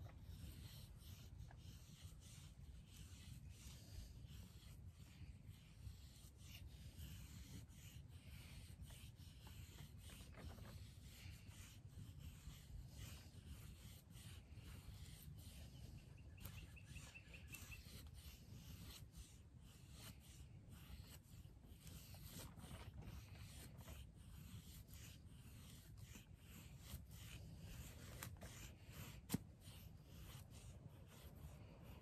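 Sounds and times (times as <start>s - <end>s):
knife scraping wood: 5.9s - 32.0s.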